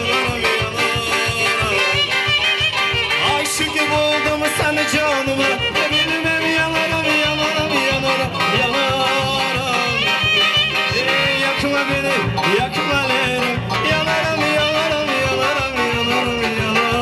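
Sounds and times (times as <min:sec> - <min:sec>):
drum beat: 0:00.0 - 0:17.0
keyboard: 0:00.0 - 0:17.0
strummed acoustic guitar: 0:00.0 - 0:17.0.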